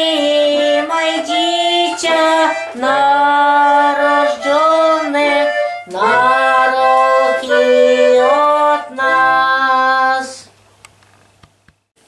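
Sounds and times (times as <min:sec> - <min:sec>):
woman singing carol: 0:00.0 - 0:10.5.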